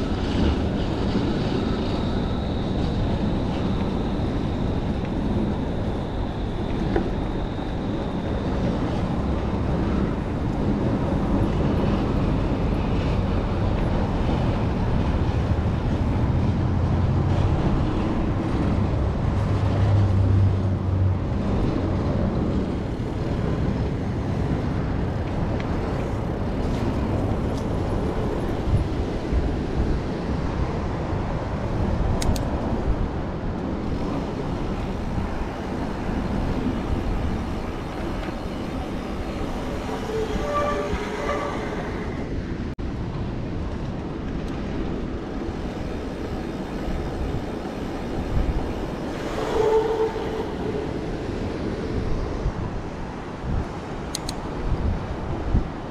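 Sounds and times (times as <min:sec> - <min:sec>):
passing traffic: 0:00.0 - 0:55.9
road noise: 0:00.0 - 0:55.9
wind noise: 0:00.0 - 0:55.9.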